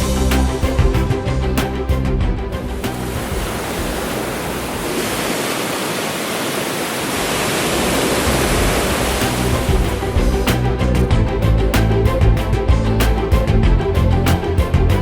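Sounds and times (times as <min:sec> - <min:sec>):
music: 0:00.0 - 0:05.2, 0:07.7 - 0:15.0
rushing water: 0:00.0 - 0:15.0.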